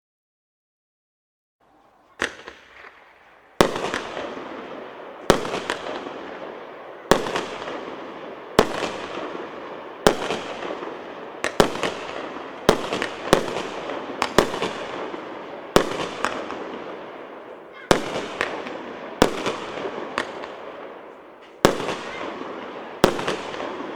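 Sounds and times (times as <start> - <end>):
firework shots with crackle: 2.2 - 23.9.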